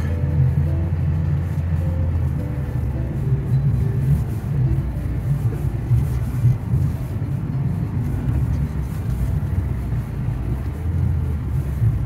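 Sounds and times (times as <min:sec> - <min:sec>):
tyres rumbling over packed snow: 0:00.0 - 0:12.0.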